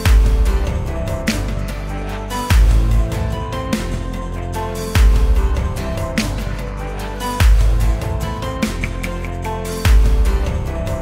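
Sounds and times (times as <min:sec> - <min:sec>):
synth music with bass: 0:00.0 - 0:11.0.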